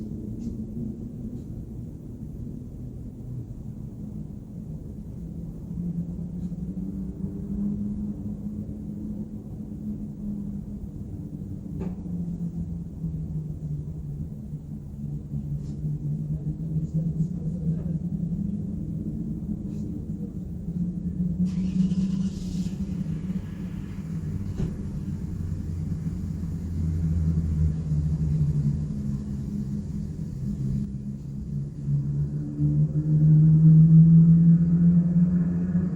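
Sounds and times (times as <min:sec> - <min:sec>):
traffic engine rumble: 0:00.0 - 0:35.9.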